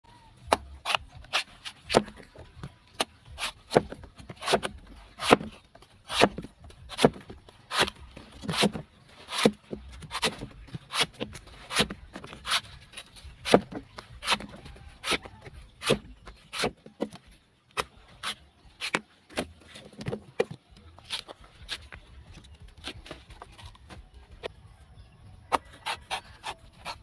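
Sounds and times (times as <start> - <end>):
knife chopping coconut husk: 0.4 - 22.0, 25.5 - 27.0.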